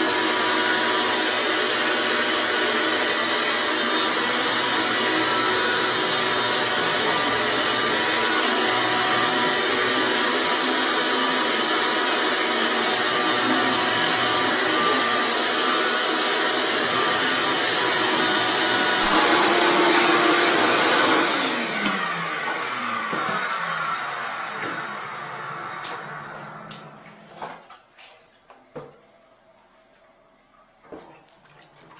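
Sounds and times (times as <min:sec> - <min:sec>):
drain-cleaning machine whirring: 0:00.0 - 0:27.4.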